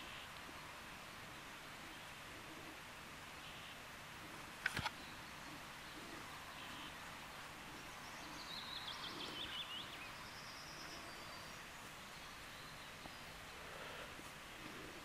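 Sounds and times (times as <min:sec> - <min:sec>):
soft steady hiss: 0:00.0 - 0:15.0.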